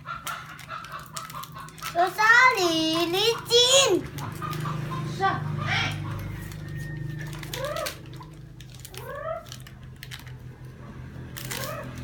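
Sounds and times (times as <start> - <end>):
plastic packet crackling: 0.2 - 4.7, 6.4 - 12.0.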